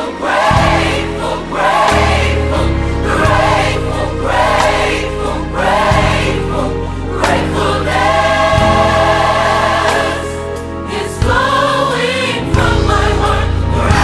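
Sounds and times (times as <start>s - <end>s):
gospel choir singing: 0.0s - 14.0s
instrumental backing with bass line: 0.0s - 14.0s.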